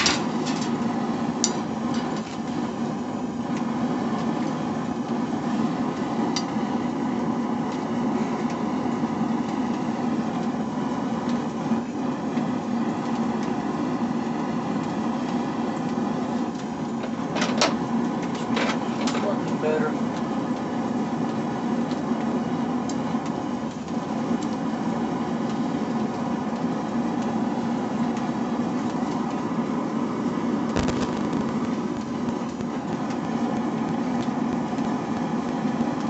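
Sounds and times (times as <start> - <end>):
forge humming: 0.0 - 36.0.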